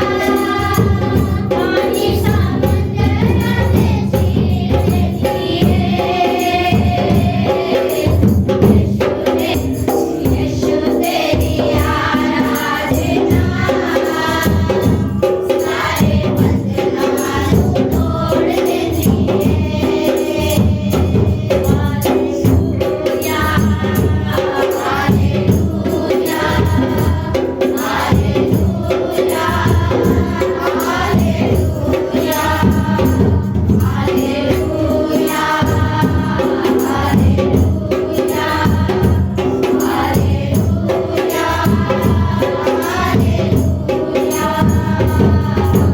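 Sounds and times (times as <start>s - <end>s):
congregation singing: 0.0s - 45.9s
rhythmic percussion: 0.0s - 45.9s.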